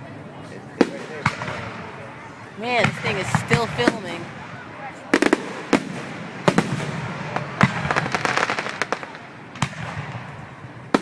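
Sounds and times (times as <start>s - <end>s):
fireworks bangs: 0.8s - 11.0s
fireworks crackling: 0.8s - 11.0s.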